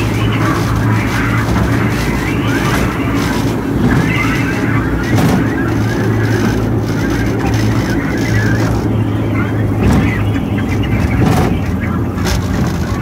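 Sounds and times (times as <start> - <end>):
ride train motor humming: 0.0 - 13.0
train rumbling on track: 0.0 - 13.0.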